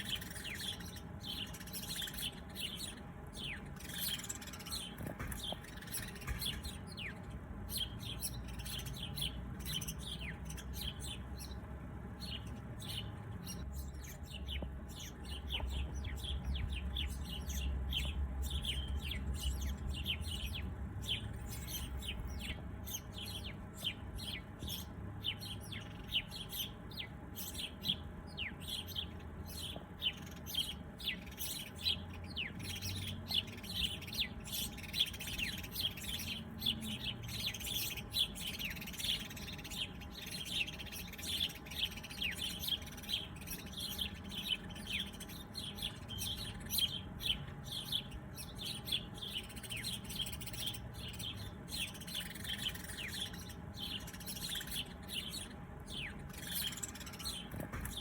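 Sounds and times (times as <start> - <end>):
low background rumble: 0.0 - 58.0
small birds chirping: 0.0 - 58.0.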